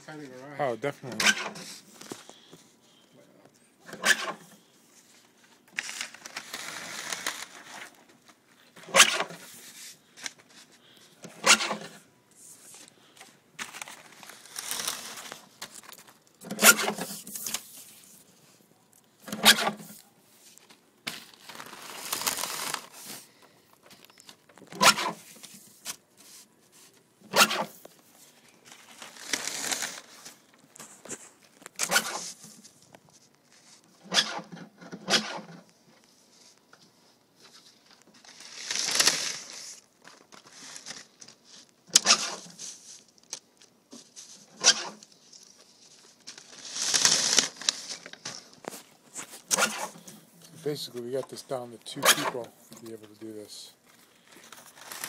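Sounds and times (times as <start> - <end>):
mesh fabric rustling: 4.0 - 33.9, 35.4 - 50.8, 51.8 - 55.0.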